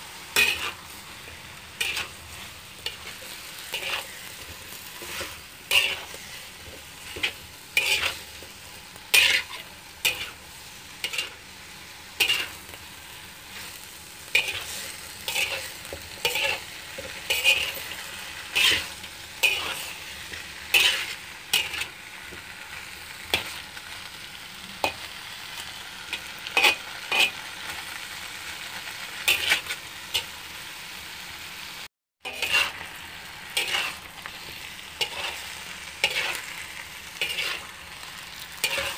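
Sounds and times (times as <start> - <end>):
food sizzling in a wok: 0.0 - 38.9
metal spatula scraping a wok: 0.2 - 23.9, 24.8 - 28.2, 29.1 - 30.4, 32.2 - 38.9.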